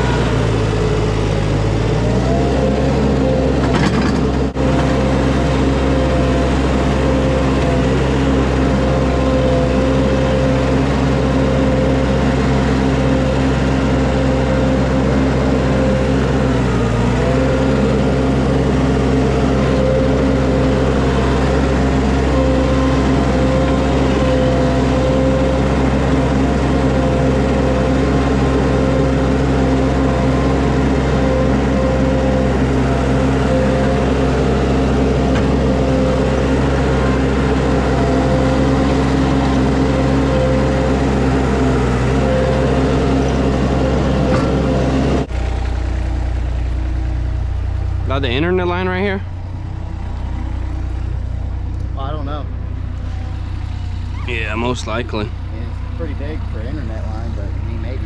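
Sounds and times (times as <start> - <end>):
skid steer loader engine: 0.0 - 58.0.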